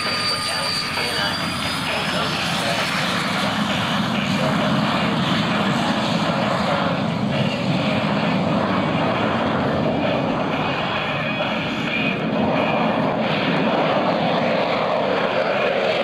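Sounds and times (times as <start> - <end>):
airplane engines droning: 0.0 - 16.0.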